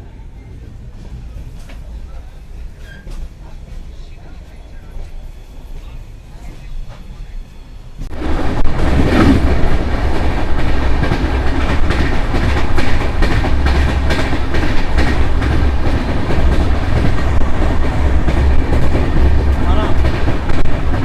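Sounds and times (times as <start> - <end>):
train rumbling at speed: 0.0 - 21.0.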